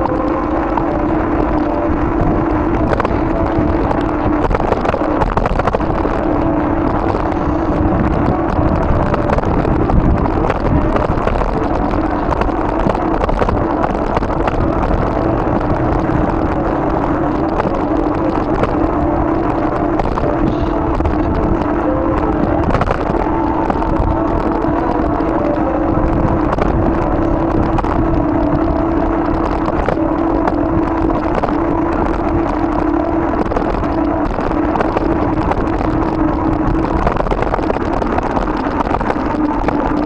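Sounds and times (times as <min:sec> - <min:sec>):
bicycle humming: 0:00.0 - 0:40.0
tyres crackling on snow: 0:00.0 - 0:40.0
wind on microphone: 0:00.0 - 0:40.0.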